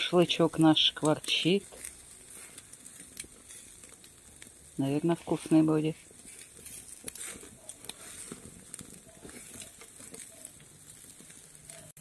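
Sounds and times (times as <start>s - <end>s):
charcoal pops and crackles: 0.0s - 12.0s
meat sizzling over charcoal: 0.0s - 12.0s.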